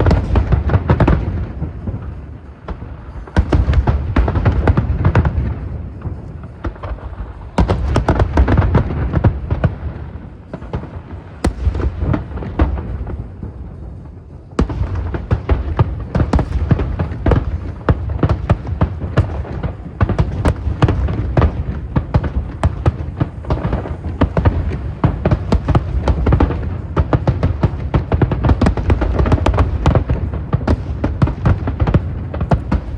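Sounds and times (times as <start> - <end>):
fireworks banging and crackling: 0.0 - 32.9.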